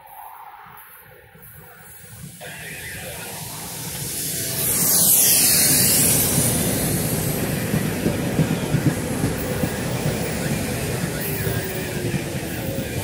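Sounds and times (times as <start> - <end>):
train passing at speed: 0.0 - 13.0
wheels clacking on track: 1.8 - 13.0.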